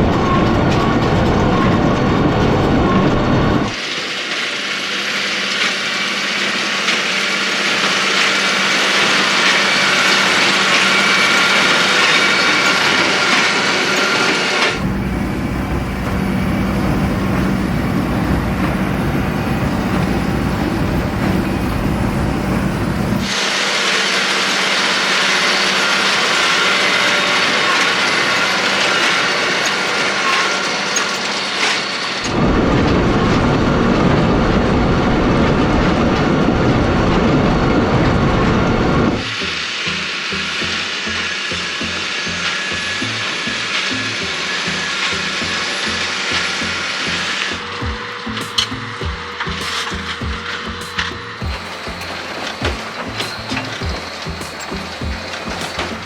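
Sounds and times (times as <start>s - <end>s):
baler machinery clatter: 0.0s - 56.0s
tractor deep rumble: 0.0s - 56.0s.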